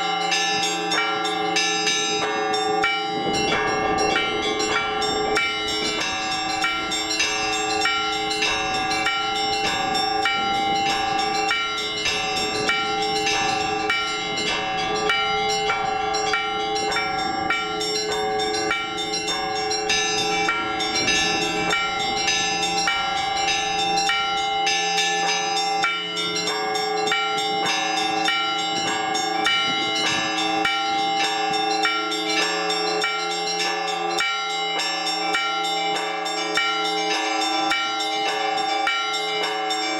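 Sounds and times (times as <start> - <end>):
large bells humming: 0.0 - 39.9
small church bells striking: 0.0 - 39.9.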